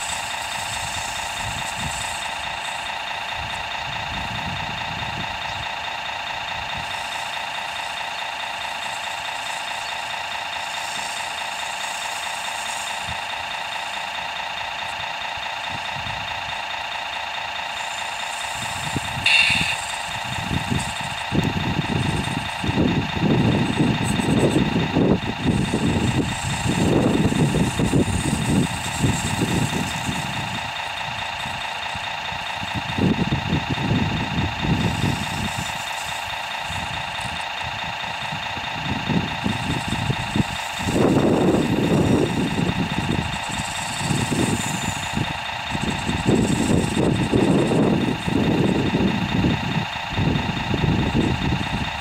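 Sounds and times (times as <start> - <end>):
model digger motor humming: 0.0 - 52.0.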